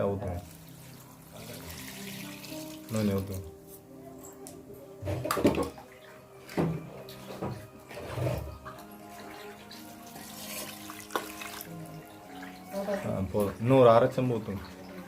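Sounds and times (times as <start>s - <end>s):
water pouring and splashing: 0.0s - 3.5s, 5.1s - 15.0s
background music: 0.0s - 15.0s.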